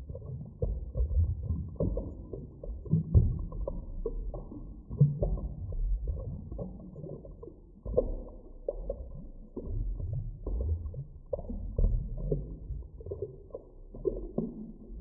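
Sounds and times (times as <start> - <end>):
soft underwater knocks and pops: 0.0 - 15.0
underwater rumble of moving water: 0.0 - 15.0.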